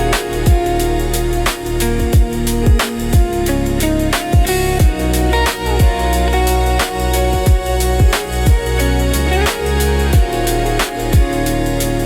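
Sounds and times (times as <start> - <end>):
chill electronic music: 0.0 - 12.0.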